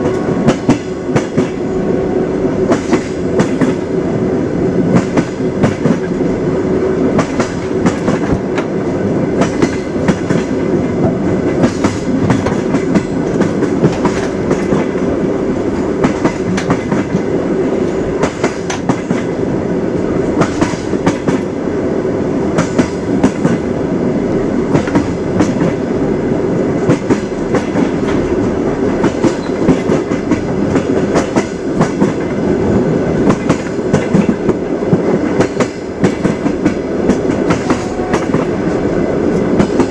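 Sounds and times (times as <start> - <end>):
train wheels clattering over rails: 0.0 - 21.7, 22.4 - 39.9.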